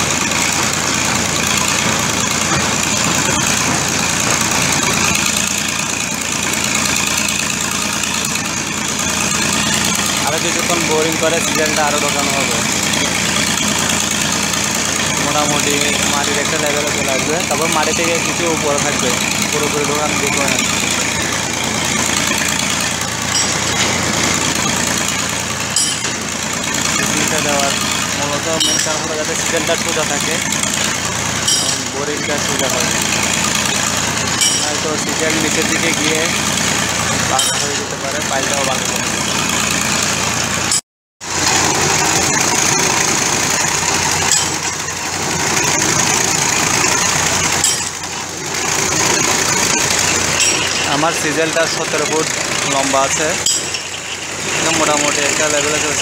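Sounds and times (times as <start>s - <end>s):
winch machine engine running: 0.0s - 56.0s.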